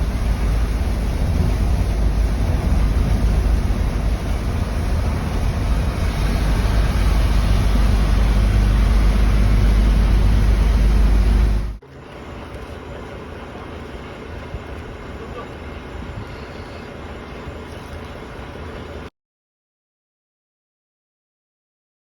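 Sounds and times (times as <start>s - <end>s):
moving bus rumbling: 0.0s - 19.1s.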